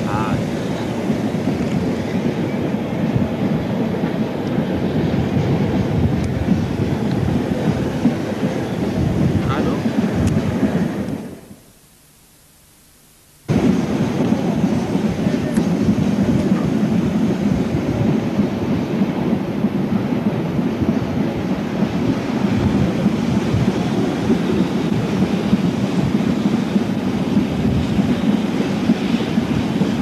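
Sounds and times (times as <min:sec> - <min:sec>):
train rumbling on track: 0:00.0 - 0:11.7, 0:13.5 - 0:30.0.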